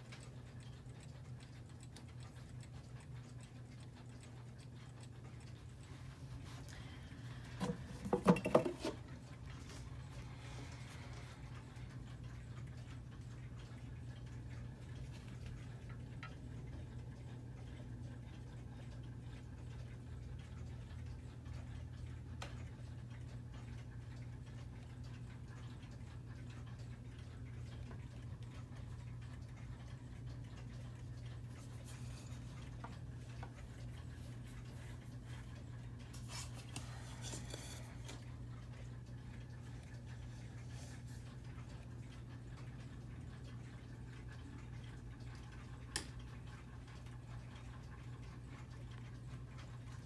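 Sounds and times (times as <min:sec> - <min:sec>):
clock ticking faintly: 0:00.0 - 0:50.0
steady low hum: 0:00.0 - 0:50.0.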